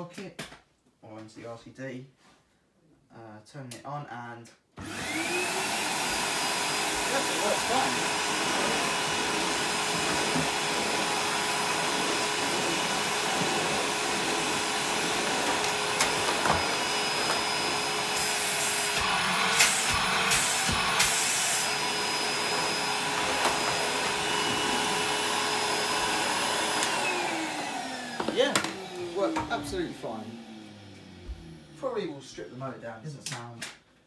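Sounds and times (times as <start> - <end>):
vacuum cleaner motor whine: 4.8 - 32.8.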